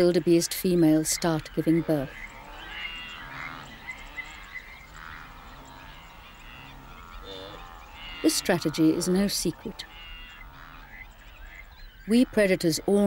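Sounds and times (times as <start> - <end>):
chorus of croaking animals: 0.0 - 13.0.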